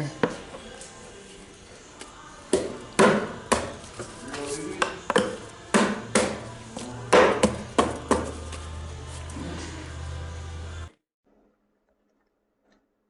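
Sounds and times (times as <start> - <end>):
faint background music: 0.0 - 10.9.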